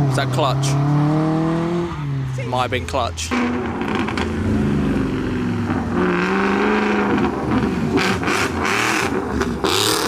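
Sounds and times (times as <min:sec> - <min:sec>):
car engine revving: 0:00.0 - 0:10.0
road noise: 0:00.0 - 0:10.0.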